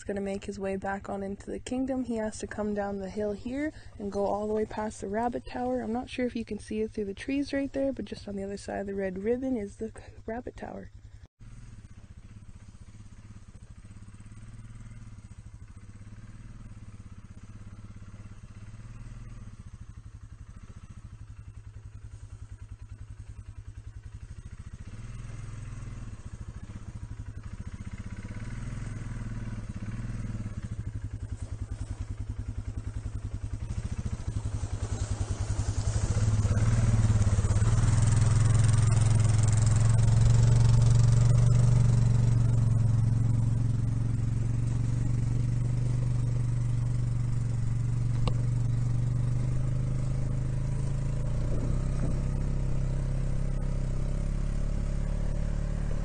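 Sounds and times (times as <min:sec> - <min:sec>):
quad bike engine passing: 0:00.0 - 0:56.0.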